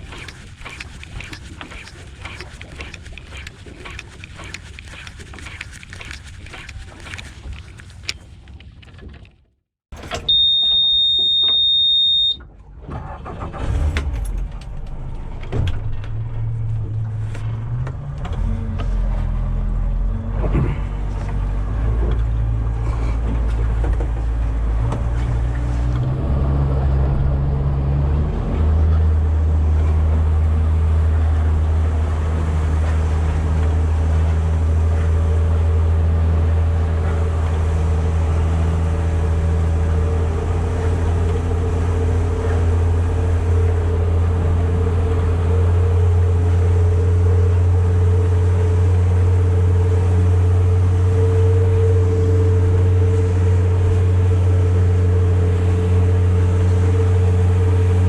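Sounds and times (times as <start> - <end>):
boat engine running: 0.0 - 10.4, 12.5 - 58.0
wind: 0.0 - 58.0.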